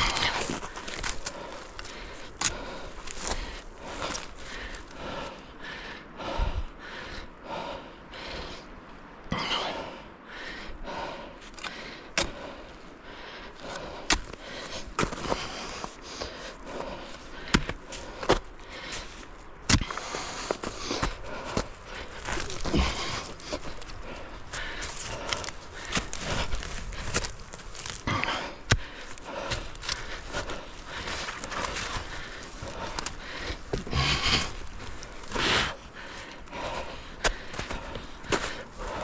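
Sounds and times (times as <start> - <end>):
footsteps on rough ground: 0.0 - 5.4, 11.5 - 39.0
person breathing hard: 0.0 - 39.0.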